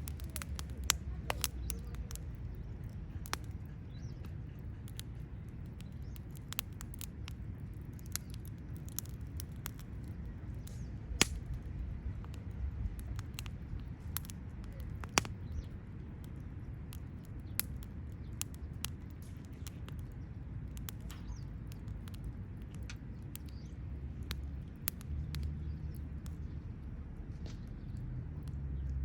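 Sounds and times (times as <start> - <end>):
low steady rumble: 0.0 - 29.0
wood fire crackling and popping: 0.0 - 29.0.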